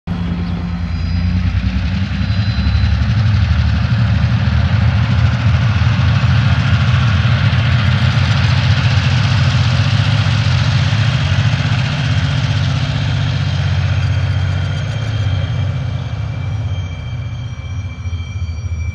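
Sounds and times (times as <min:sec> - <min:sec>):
diesel locomotive engines throbbing: 0:00.1 - 0:18.9.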